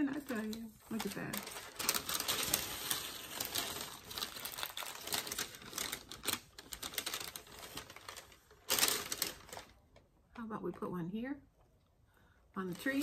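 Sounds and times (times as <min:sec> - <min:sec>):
paper crinkling and rustling: 0:00.0 - 0:10.1, 0:12.6 - 0:13.0.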